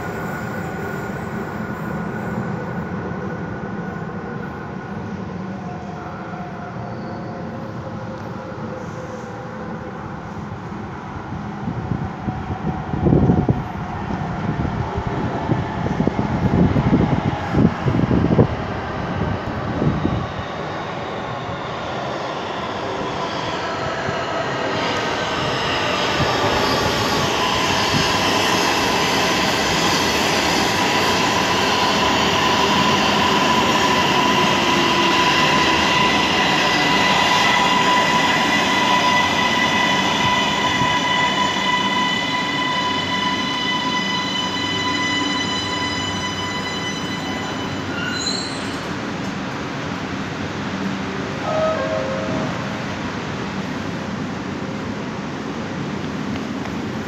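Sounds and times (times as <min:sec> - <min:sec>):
metro train motor whine: 0:00.0 - 0:54.0
train running noise: 0:00.0 - 0:57.0.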